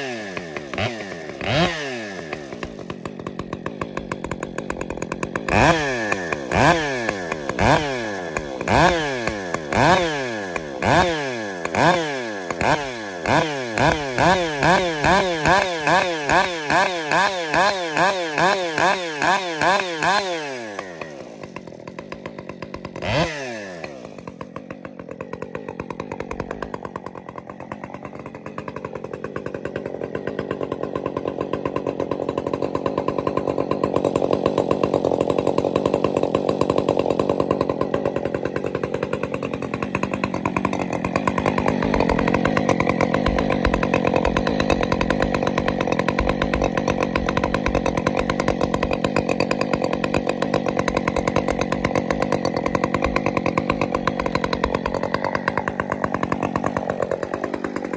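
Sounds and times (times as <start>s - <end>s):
chainsaw running: 0.0s - 57.9s.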